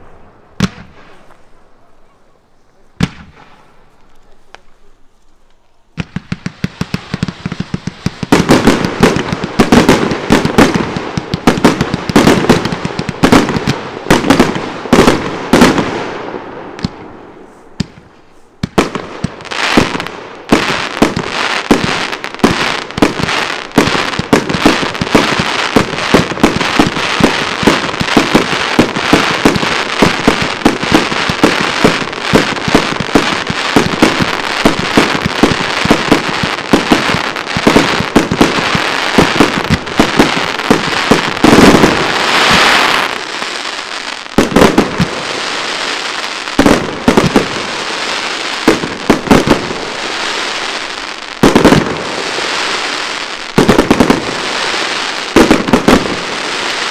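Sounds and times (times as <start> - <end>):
fireworks bangs and crackling: 0.0 - 56.9.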